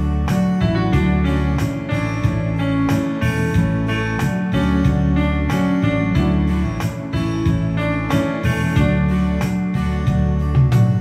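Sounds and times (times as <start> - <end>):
strummed guitar chords: 0.0 - 11.0.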